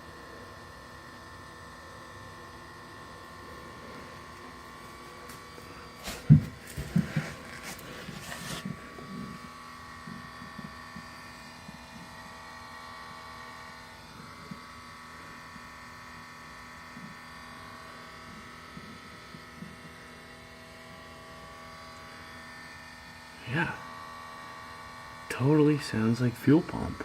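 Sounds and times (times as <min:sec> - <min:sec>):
fuel pump electric hum: 0:00.0 - 0:27.0.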